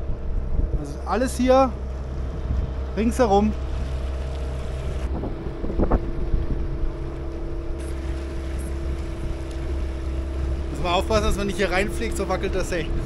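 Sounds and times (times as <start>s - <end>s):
motorboat engine running: 0.0s - 13.0s
wind on microphone: 0.0s - 13.0s.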